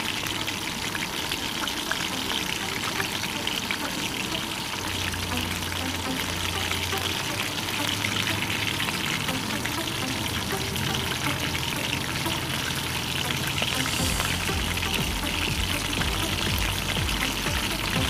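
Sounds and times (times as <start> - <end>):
chicken frying in oil: 0.0 - 18.0
music: 1.4 - 18.0.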